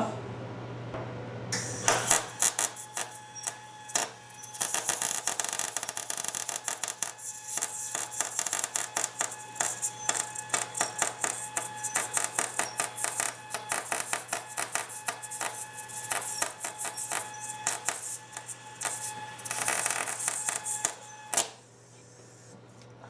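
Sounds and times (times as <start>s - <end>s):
welding arc crackling: 1.6s - 21.6s.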